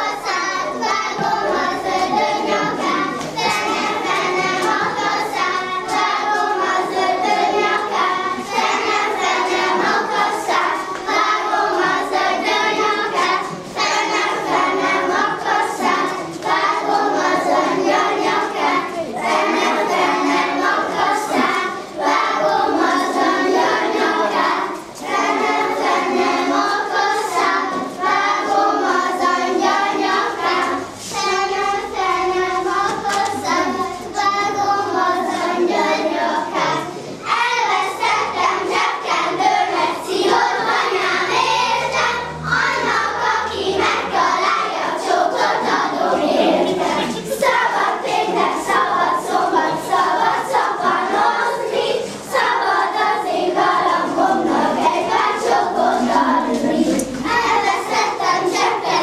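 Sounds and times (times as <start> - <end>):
children singing: 0.0 - 59.0.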